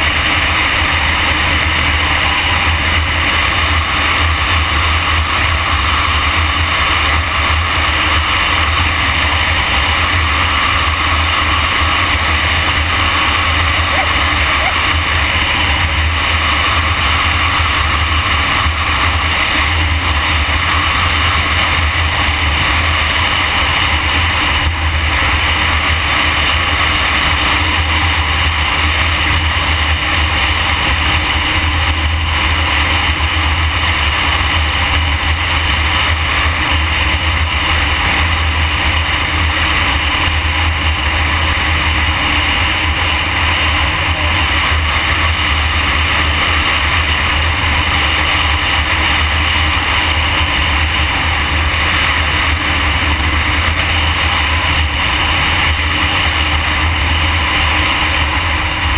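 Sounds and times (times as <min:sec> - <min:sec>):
motorcycle engine drone: 0:00.0 - 0:58.9.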